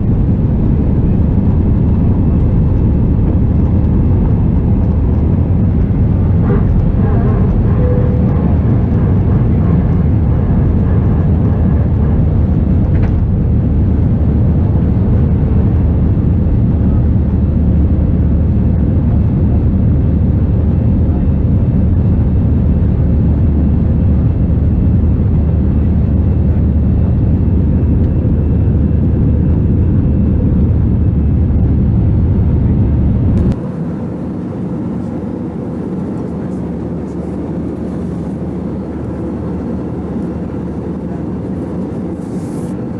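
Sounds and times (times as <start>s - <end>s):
aircraft cabin engine rumble: 0.0s - 42.9s.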